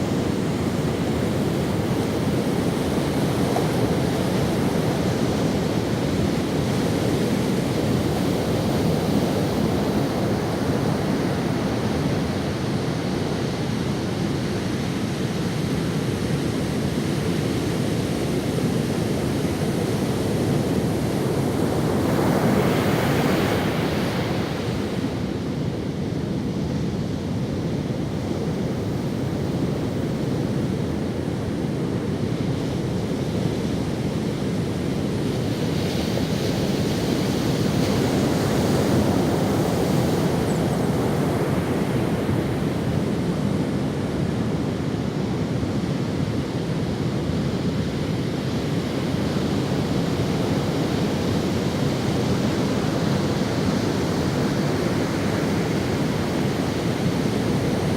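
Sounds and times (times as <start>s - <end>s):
ocean waves on sandy beach: 0.0s - 57.9s.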